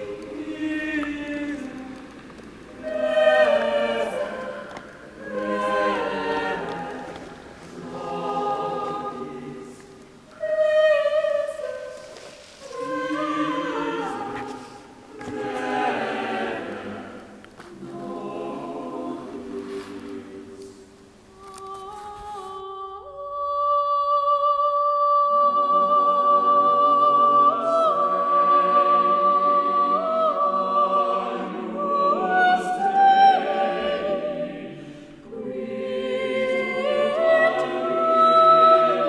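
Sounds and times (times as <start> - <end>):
choir singing: 0.0 - 21.6, 22.7 - 39.0.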